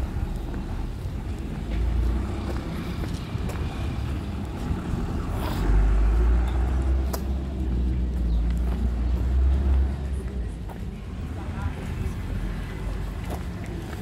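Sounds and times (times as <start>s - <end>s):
street low rumble: 0.0s - 14.0s.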